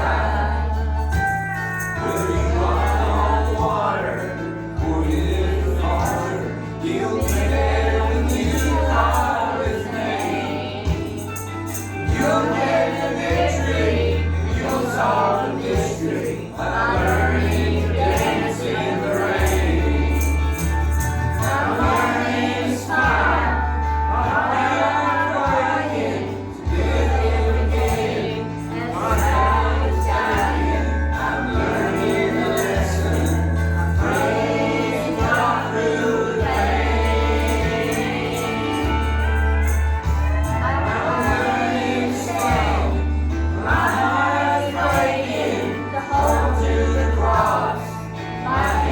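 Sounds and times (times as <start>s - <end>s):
bass line: 0.0s - 48.9s
gospel singing: 0.0s - 48.9s.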